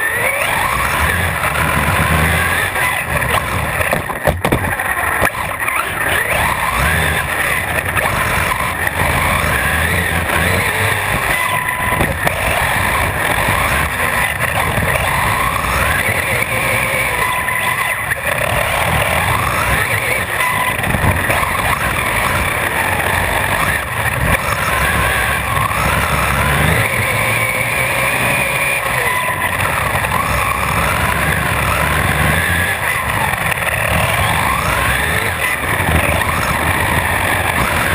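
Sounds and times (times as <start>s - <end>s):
electric motor whine: 0.0s - 37.9s.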